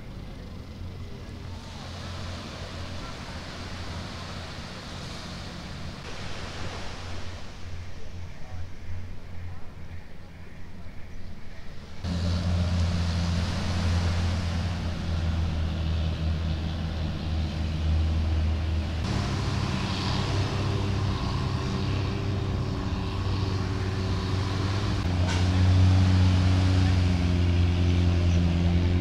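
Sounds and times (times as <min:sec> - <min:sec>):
motorboat engine droning: 0:00.0 - 0:29.0.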